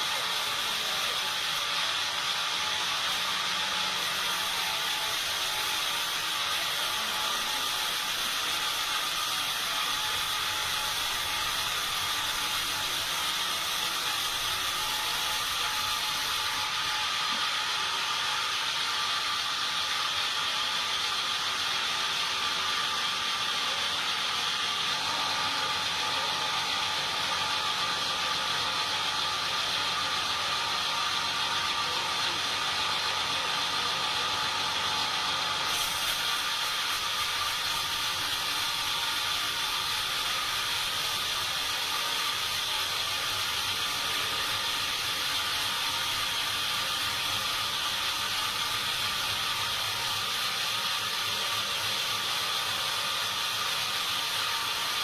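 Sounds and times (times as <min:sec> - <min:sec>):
sawmill machinery whine: 0:00.0 - 0:55.0.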